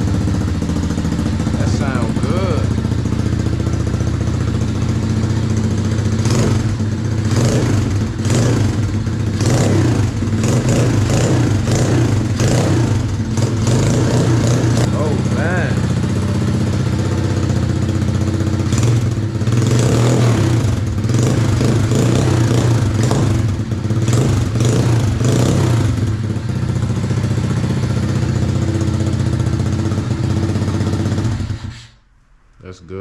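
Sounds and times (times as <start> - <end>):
small motorcycle engine running: 0.0 - 31.8.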